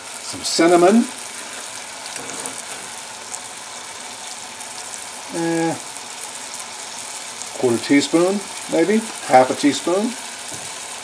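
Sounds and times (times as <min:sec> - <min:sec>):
apples sizzling in saucepan: 0:00.0 - 0:11.0.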